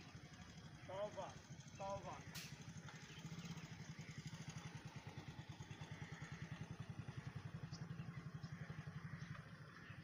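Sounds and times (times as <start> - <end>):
engine idling with low thudding: 0.0 - 10.0.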